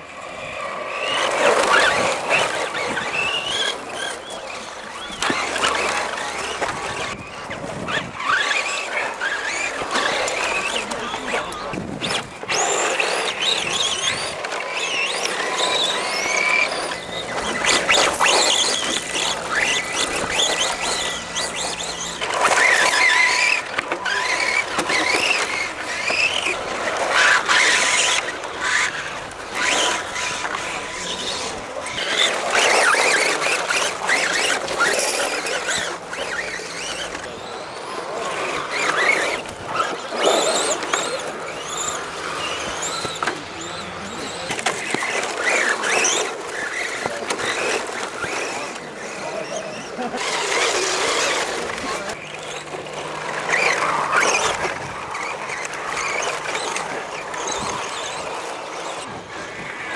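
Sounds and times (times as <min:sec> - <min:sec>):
electric motors whining: 0:00.0 - 0:59.9.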